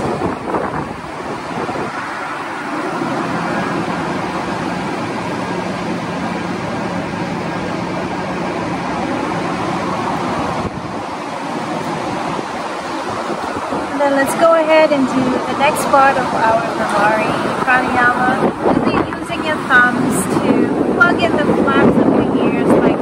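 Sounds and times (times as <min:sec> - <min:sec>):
wind noise on microphone: 0:00.0 - 0:23.0.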